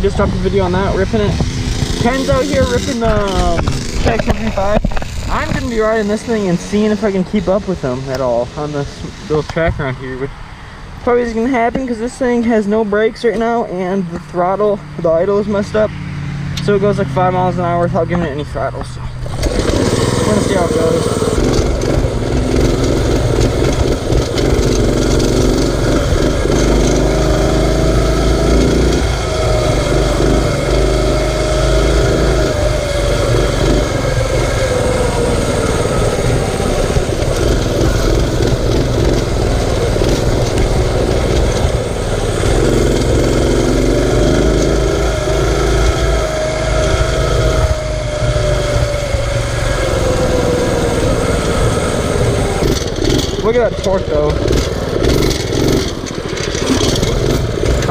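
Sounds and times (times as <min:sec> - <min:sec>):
small motorbike engine revving: 0:00.0 - 0:09.9, 0:14.4 - 0:57.9
heavy low rumble: 0:00.0 - 0:57.9.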